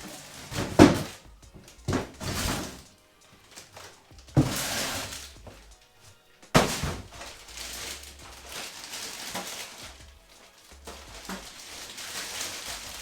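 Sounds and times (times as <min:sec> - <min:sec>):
rustling box packaging: 0:00.0 - 0:13.0.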